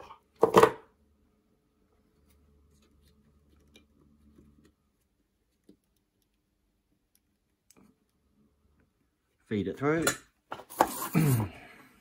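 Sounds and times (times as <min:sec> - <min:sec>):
faint low hum: 0:00.1 - 0:09.8.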